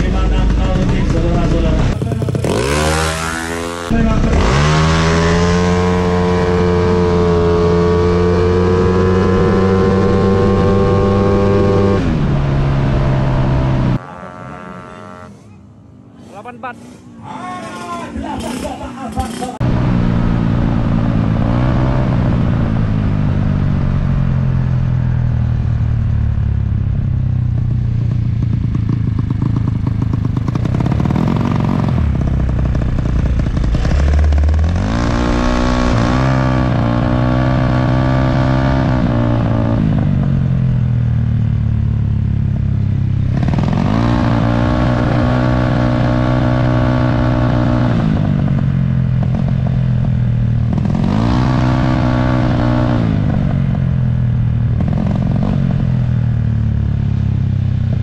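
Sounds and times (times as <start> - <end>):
motorbike engine revving: 0.0 - 15.6, 18.1 - 58.0
low rumble: 3.9 - 14.0, 19.6 - 58.0.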